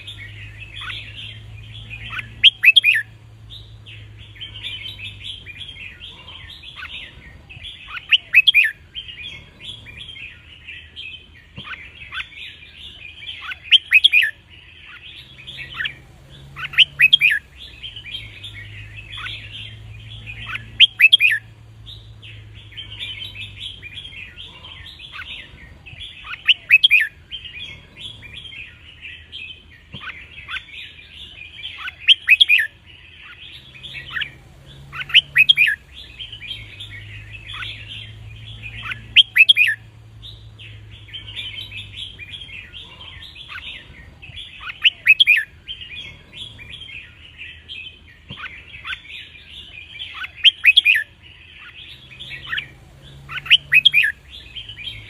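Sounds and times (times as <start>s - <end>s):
bird song chattering and warbling: 0.0s - 55.0s.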